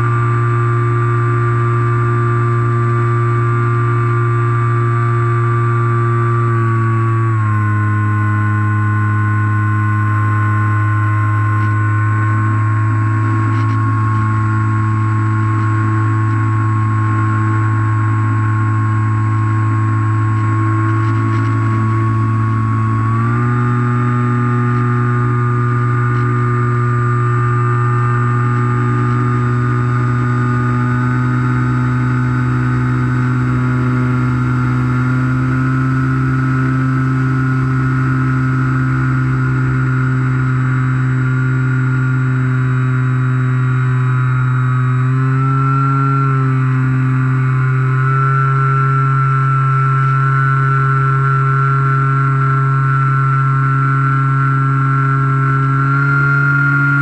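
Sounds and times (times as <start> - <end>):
electric motor and propeller droning: 0.0 - 57.0.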